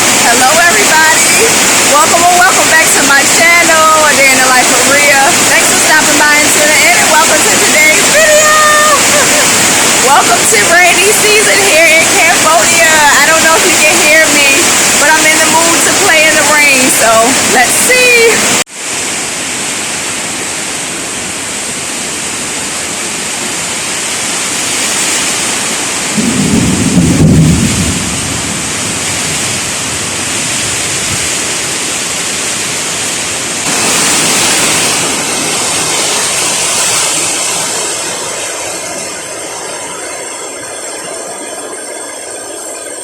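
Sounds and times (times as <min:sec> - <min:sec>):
thunder rumbling: 0:00.0 - 0:18.6, 0:24.6 - 0:43.0
heavy rain pouring: 0:00.0 - 0:43.0.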